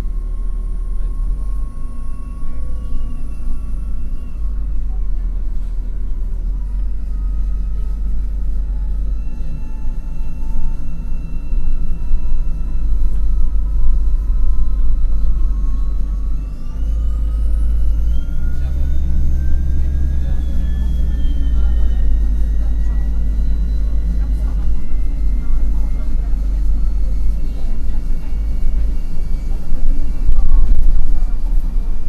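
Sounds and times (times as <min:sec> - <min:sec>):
bus drivetrain rumble: 0:00.0 - 0:32.0
electric whine: 0:00.0 - 0:32.0.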